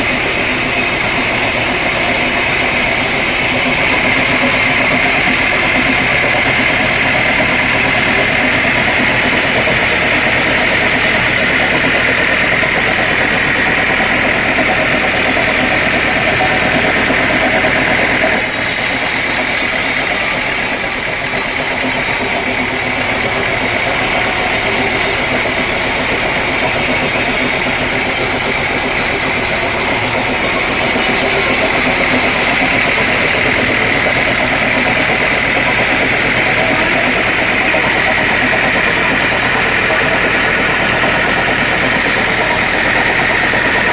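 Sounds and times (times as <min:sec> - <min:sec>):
engine drone: 0:00.0 - 0:43.9
machinery high whine: 0:00.0 - 0:43.9.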